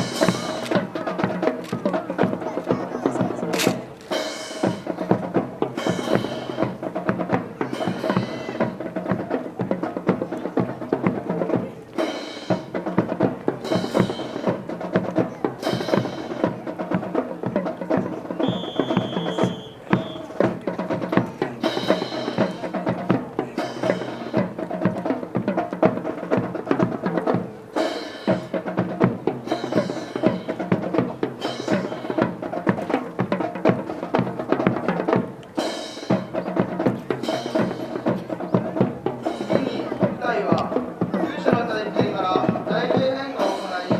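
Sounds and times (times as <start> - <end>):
percussive music with drums: 0.0 - 43.9.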